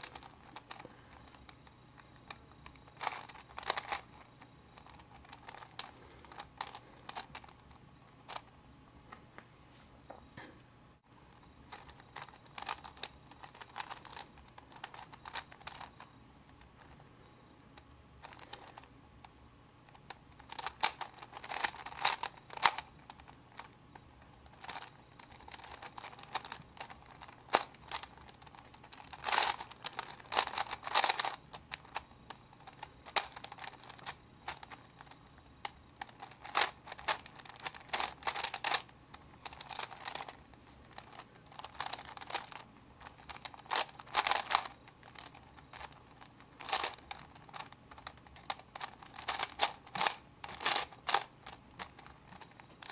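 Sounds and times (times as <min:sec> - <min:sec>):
plastic puzzle cube clicking: 0:00.0 - 0:01.6, 0:02.2 - 0:04.2, 0:04.8 - 0:08.4, 0:11.7 - 0:16.0, 0:18.2 - 0:18.9, 0:20.0 - 0:23.8, 0:24.4 - 0:52.9.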